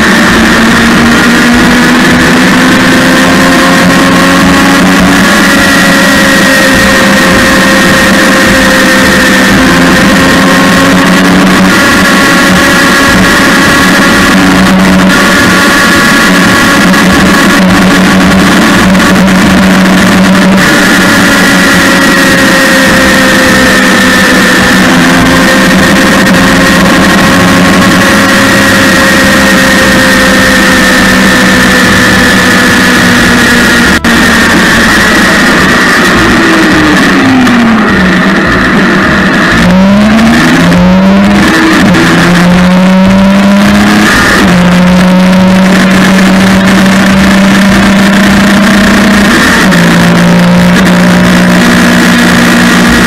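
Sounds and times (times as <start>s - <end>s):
motorcycle engine cruising: 0.0s - 53.0s
wind rush: 0.0s - 53.0s.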